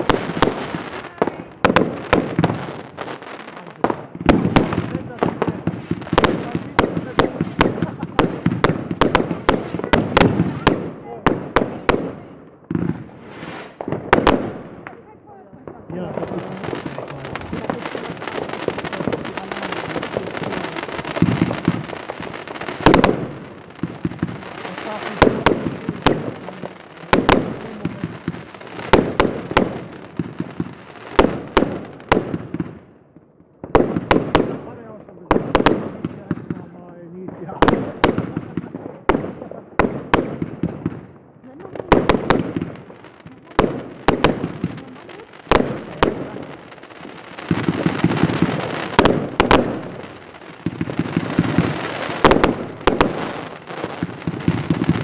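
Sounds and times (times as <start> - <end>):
fireworks bangs and cracks: 0.0 - 55.0.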